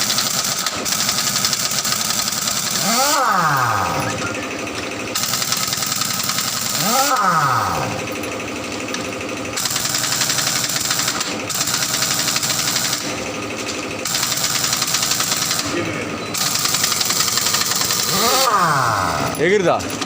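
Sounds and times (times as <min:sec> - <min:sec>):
engine revving: 0:00.0 - 0:20.0
power tool rattling: 0:00.0 - 0:20.0.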